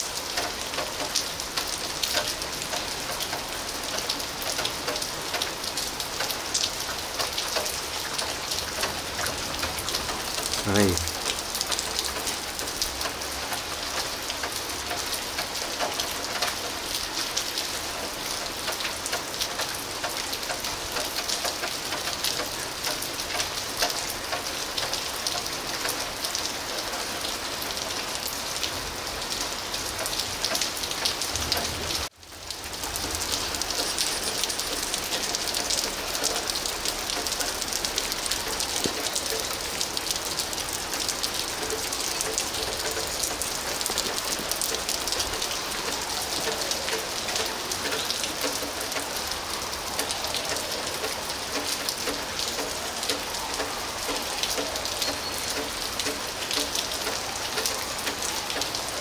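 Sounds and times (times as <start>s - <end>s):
rain on wet pavement: 0.0s - 59.0s.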